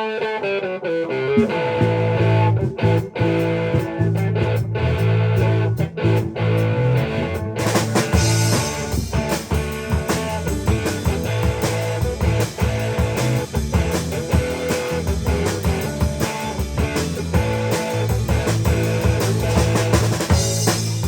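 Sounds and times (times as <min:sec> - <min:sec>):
electric guitar: 0:00.0 - 0:21.0
drum kit beat: 0:01.4 - 0:21.0.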